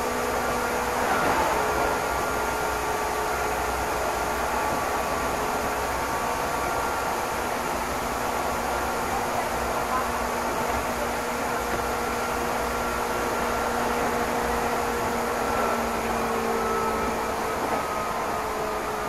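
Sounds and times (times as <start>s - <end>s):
faint steady tones: 0.0s - 19.0s
train carriage running noise: 0.0s - 19.0s.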